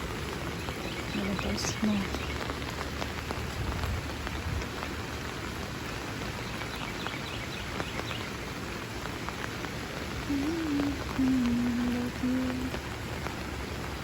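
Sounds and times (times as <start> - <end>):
raindrops ticking on surfaces: 0.0 - 14.0
steady rain falling: 0.0 - 14.0.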